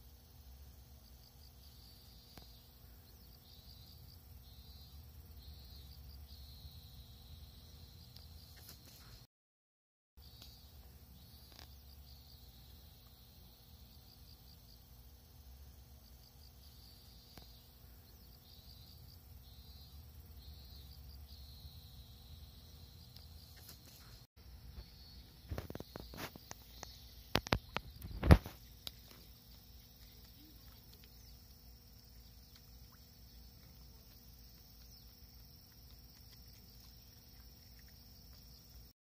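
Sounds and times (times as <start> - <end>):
insects chirping: 0.0 - 9.3, 10.2 - 39.0.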